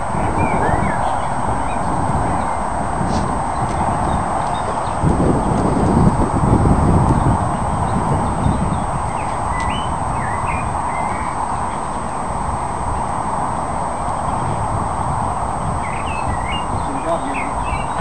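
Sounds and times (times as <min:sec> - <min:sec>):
small birds chirping: 0:00.0 - 0:18.0
wind rushing across microphone: 0:00.0 - 0:18.0.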